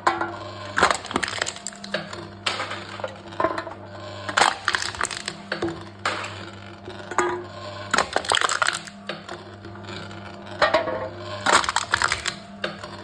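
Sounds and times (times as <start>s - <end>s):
cans crushed in machine: 0.2s - 9.6s, 10.6s - 13.0s.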